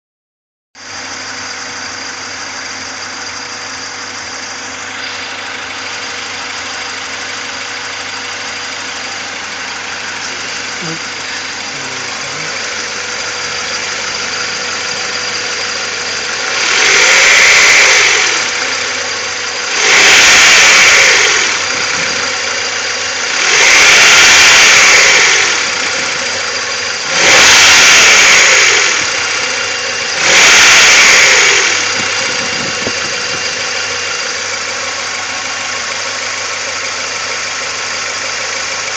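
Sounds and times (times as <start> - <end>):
car engine idling and revving: 0.8 - 38.9.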